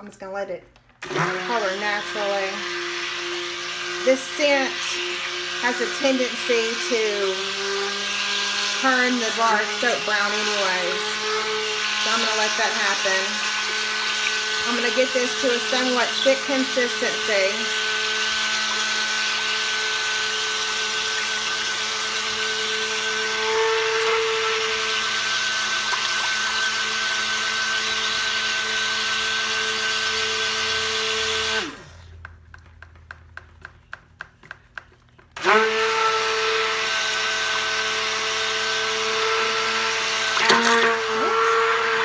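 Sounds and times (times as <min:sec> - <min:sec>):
stick blender running: 0:01.0 - 0:33.3, 0:35.3 - 0:42.0.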